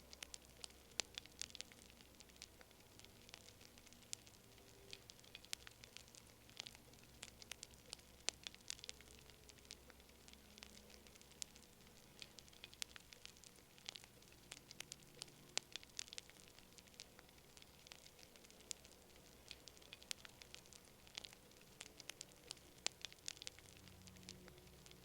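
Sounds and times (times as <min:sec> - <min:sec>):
campfire crackling: 0:00.0 - 0:25.0
low fire hiss: 0:00.0 - 0:25.0.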